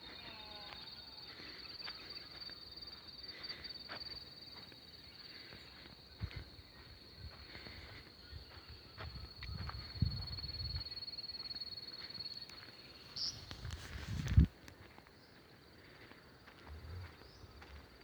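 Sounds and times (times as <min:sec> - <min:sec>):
high-pitched insect trill: 0:00.0 - 0:14.5.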